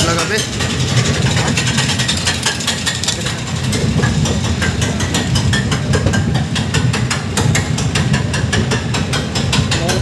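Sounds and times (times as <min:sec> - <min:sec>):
lift chain clacking: 0:00.0 - 0:10.0
roller coaster lift rumble: 0:00.0 - 0:10.0.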